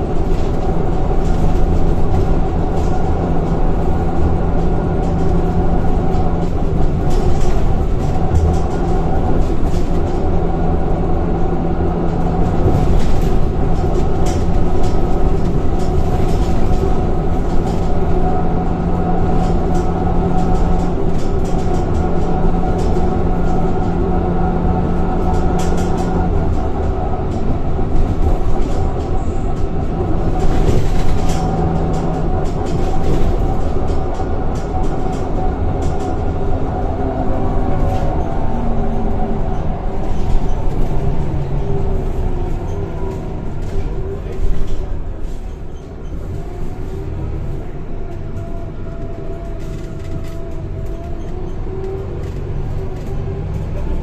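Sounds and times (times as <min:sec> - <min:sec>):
bus engine humming: 0:00.0 - 0:54.0
road noise: 0:00.0 - 0:54.0.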